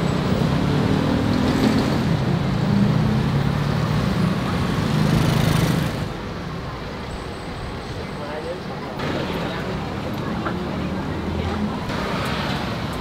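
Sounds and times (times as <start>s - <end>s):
passing vehicle engines: 0.0s - 13.0s
road noise: 0.0s - 13.0s.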